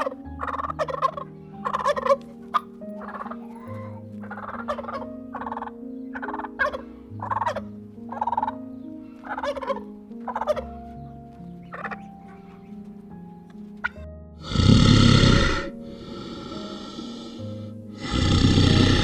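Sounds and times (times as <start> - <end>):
background music with held notes: 0.0 - 19.0.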